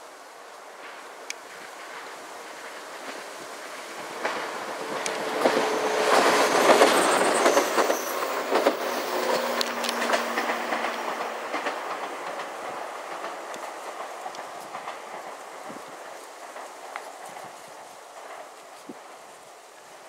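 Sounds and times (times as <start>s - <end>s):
electric train passing: 0.0s - 20.0s
wheels clattering over rail joints: 0.8s - 19.6s.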